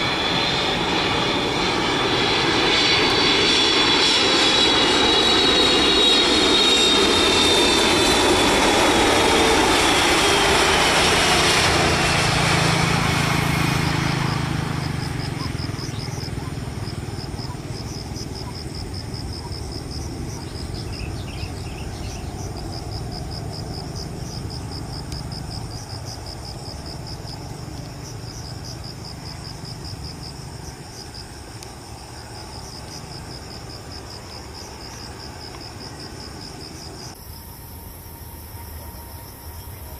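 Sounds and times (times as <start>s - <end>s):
insects chirping: 0.0s - 39.9s
jet engines rushing whine: 0.0s - 39.9s.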